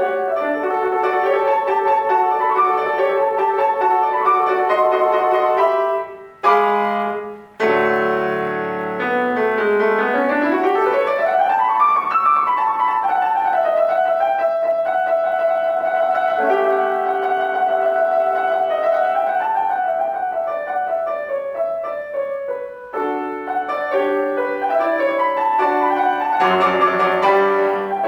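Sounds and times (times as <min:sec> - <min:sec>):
solo piano: 0:00.0 - 0:28.0.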